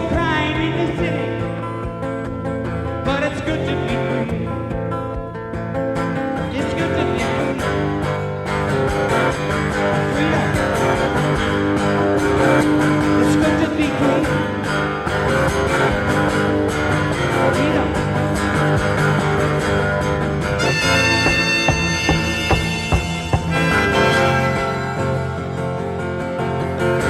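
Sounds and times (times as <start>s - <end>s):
live rock music led by guitars: 0.0s - 27.0s.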